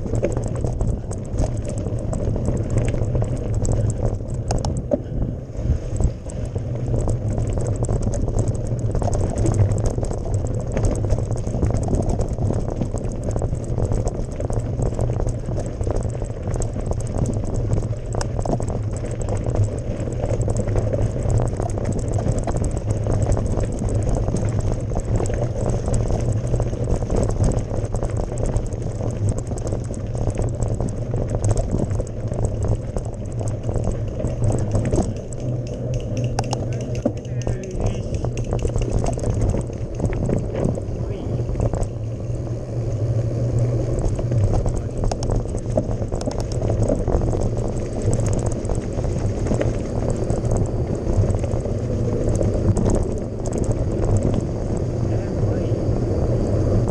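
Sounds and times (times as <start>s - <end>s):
bike tyres crunching on gravel: 0.0s - 55.6s
bike rattling over stones: 0.0s - 56.9s
low rumble: 0.0s - 56.9s.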